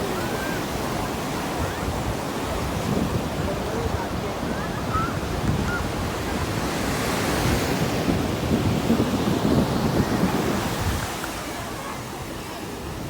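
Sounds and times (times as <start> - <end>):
ocean surf washing in: 0.0 - 13.0
wind rumbling on microphone: 0.0 - 13.0.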